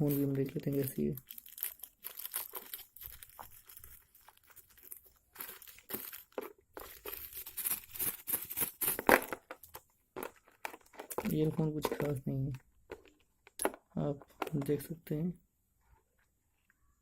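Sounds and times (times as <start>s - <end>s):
packaging crinkling and rustling: 0.0s - 13.8s.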